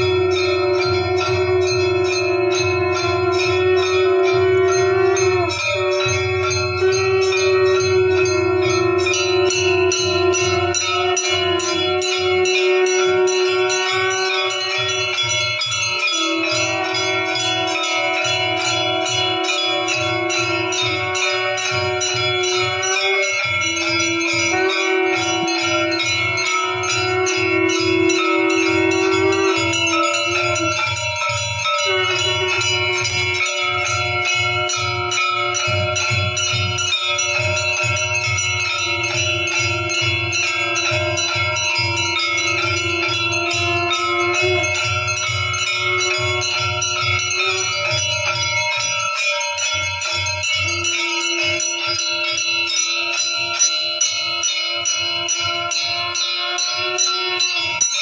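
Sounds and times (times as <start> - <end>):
bells ringing rapidly: 0.0 - 58.0
long held tone: 0.0 - 58.0.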